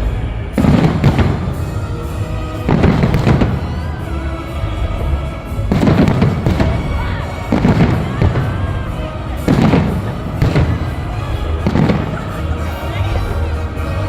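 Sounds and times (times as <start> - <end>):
fireworks booming with echo: 0.0 - 14.0.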